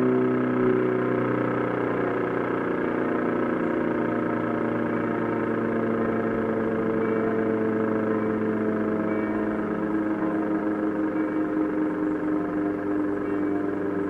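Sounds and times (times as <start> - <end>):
electric siren wavering chord: 0.0 - 14.0.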